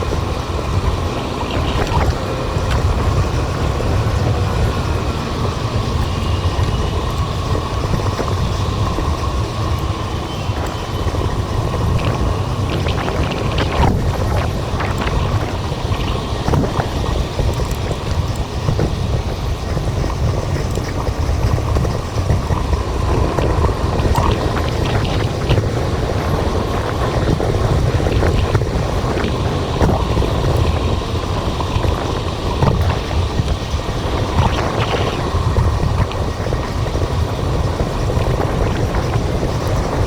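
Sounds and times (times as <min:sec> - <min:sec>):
road noise: 0:00.0 - 0:40.0
wind buffeting microphone: 0:00.0 - 0:40.0.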